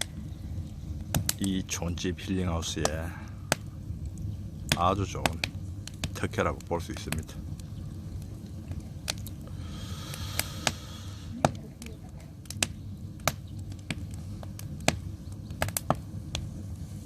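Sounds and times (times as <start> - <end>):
fire hissing: 0.0 - 17.0
firewood crackling: 0.0 - 17.0.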